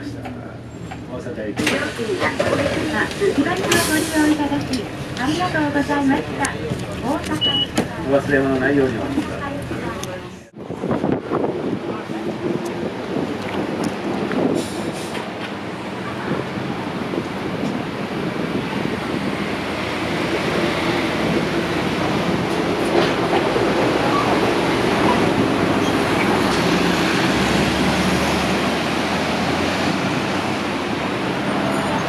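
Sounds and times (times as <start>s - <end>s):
city street traffic: 0.0s - 32.0s
diesel bus engine rumbling: 0.0s - 32.0s.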